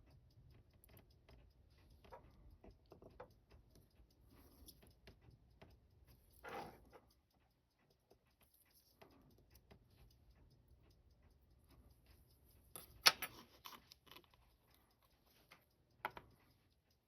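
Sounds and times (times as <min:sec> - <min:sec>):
metal tools clicking on watch parts: 0:00.1 - 0:17.0.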